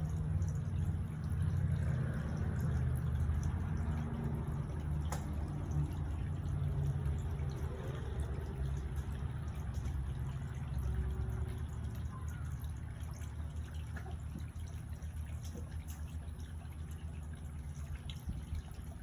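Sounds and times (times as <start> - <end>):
fountain water trickling and splashing: 0.0 - 19.0.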